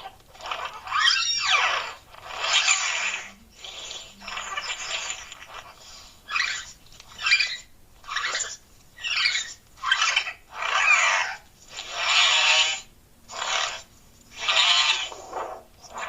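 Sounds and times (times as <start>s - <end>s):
creature cries: 0.0s - 5.0s, 6.3s - 13.8s, 14.4s - 16.0s
short chattering calls: 0.4s - 16.0s.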